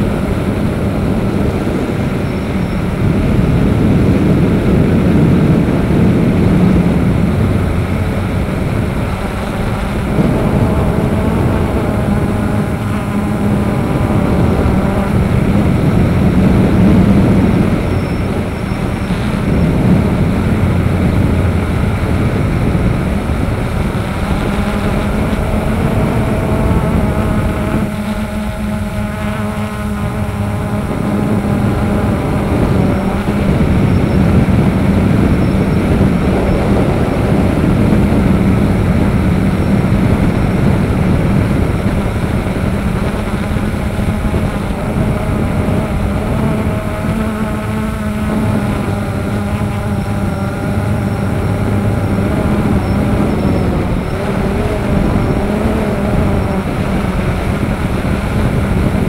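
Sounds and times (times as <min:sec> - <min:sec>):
drone motors whirring: 0:00.0 - 0:59.0
rushing air noise: 0:00.0 - 0:59.0.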